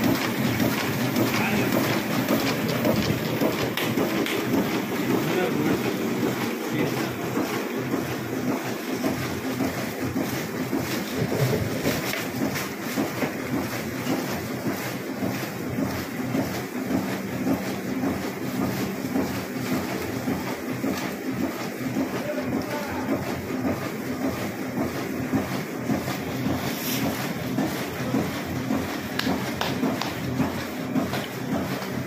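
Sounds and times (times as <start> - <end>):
motor hum: 0.0 - 32.0
printing press clatter: 0.0 - 32.0.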